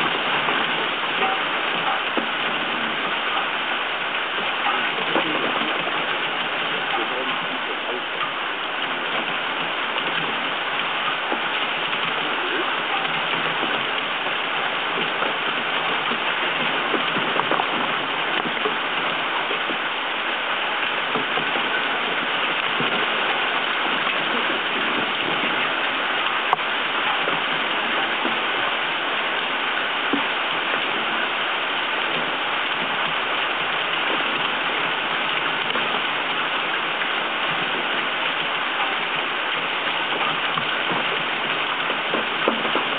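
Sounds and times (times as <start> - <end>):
heavy rain hiss: 0.0 - 42.9.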